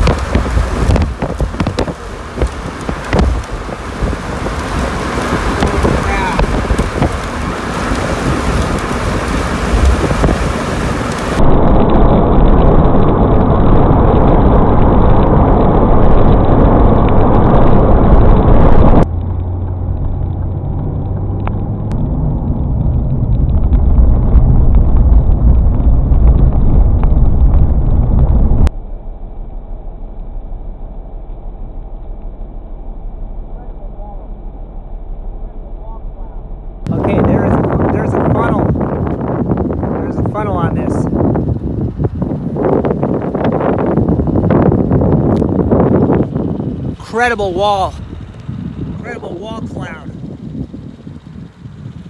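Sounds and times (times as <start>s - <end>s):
wind on microphone: 0.0s - 28.8s, 35.8s - 52.0s
vehicle rumbling: 0.0s - 52.0s.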